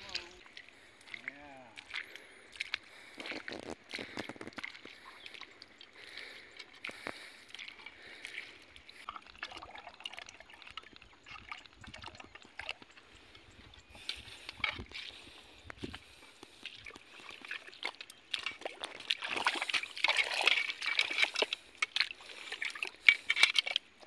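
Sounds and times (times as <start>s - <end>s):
water sloshing and trickling: 0.0s - 24.0s
wet mud squelches: 0.0s - 24.0s.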